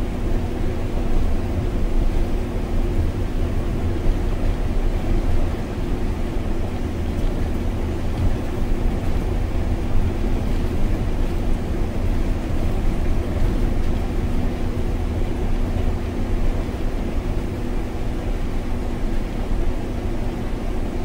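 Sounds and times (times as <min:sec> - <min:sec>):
bus engine drone: 0:00.0 - 0:21.0
faint steady hum: 0:00.0 - 0:21.0.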